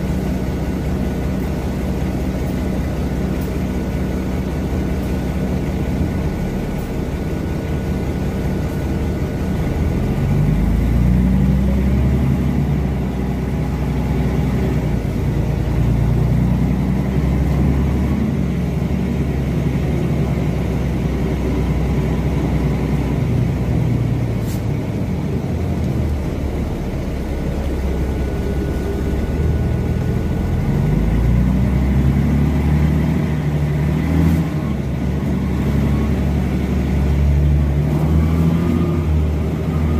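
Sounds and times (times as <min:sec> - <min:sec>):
diesel bus engine accelerating: 0:00.0 - 0:39.9
road and tyre noise: 0:00.0 - 0:39.9.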